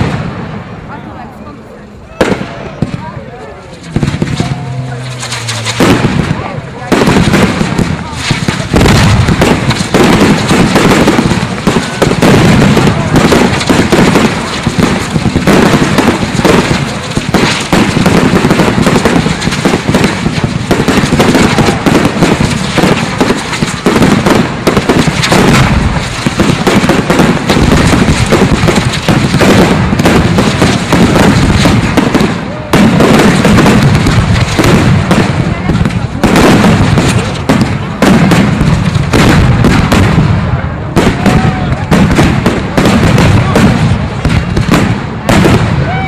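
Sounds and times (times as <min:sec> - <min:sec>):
firework bangs and bursts: 0:00.0 - 0:46.0.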